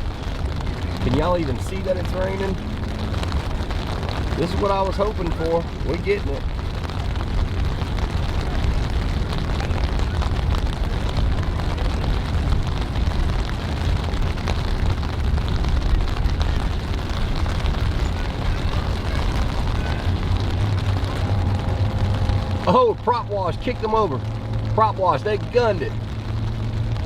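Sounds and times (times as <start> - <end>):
rain on an umbrella: 0.0 - 27.0.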